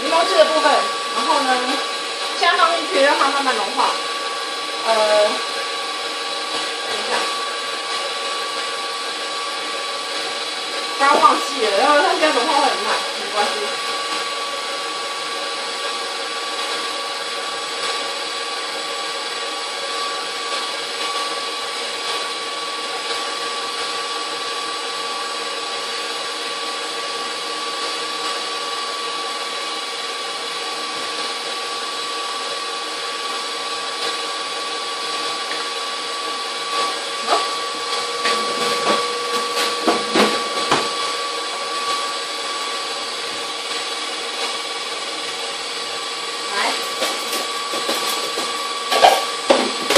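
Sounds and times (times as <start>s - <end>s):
stand mixer motor humming: 0.0s - 49.9s.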